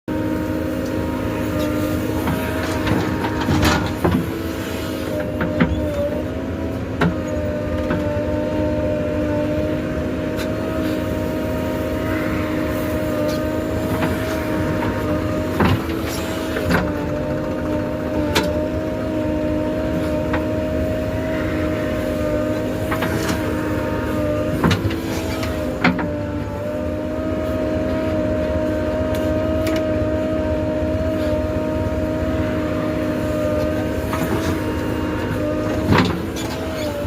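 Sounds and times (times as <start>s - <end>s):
excavator diesel engine running: 0.1s - 37.0s.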